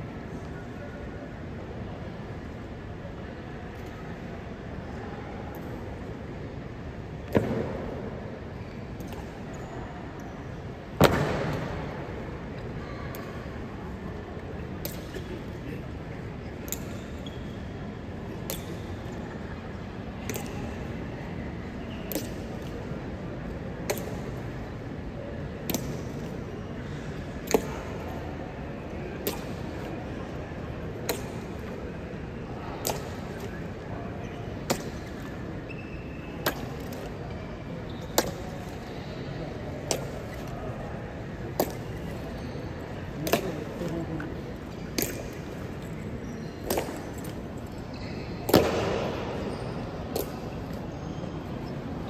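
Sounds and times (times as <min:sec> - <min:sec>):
crowd murmur: 0:00.0 - 0:52.0.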